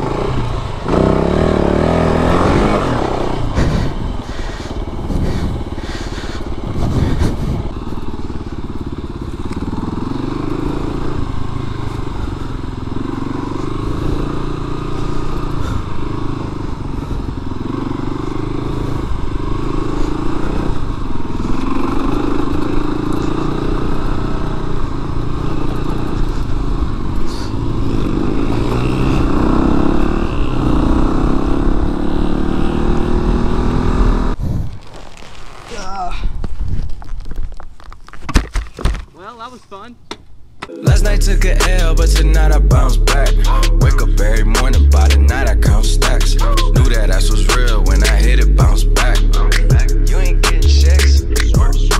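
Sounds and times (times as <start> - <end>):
motorcycle engine revving: 0.0 - 34.4, 40.9 - 51.9.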